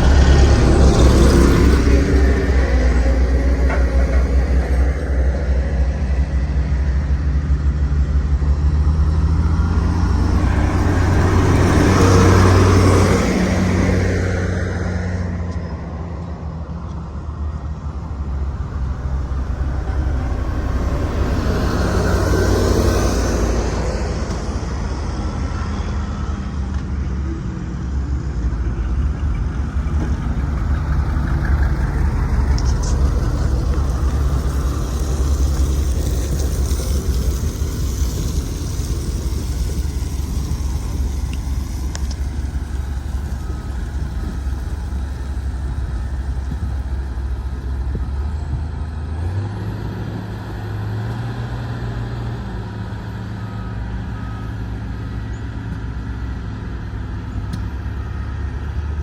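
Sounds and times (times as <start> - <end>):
road roller diesel engine droning: 0.0 - 59.0.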